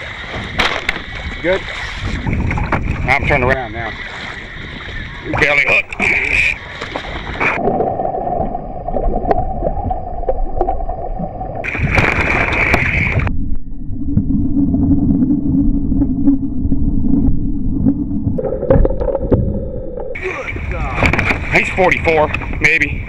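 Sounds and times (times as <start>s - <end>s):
water sloshing against hull: 0.0s - 23.0s
wind buffeting microphone: 0.2s - 13.6s, 14.2s - 23.0s.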